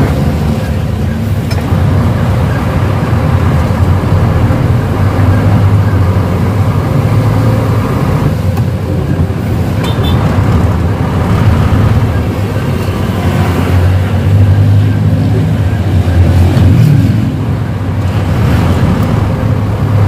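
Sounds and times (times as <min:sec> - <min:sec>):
truck diesel engine drone: 0:00.0 - 0:20.0.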